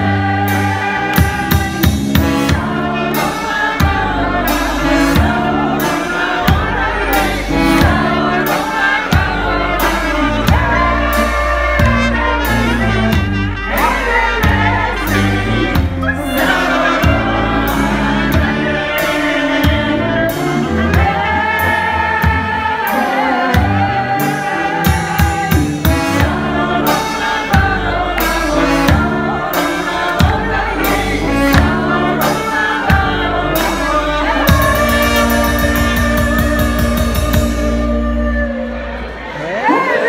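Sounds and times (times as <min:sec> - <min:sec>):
bass drum beating: 0:00.0 - 0:39.3
brass horns playing: 0:00.0 - 0:40.0
women singing together: 0:00.0 - 0:40.0.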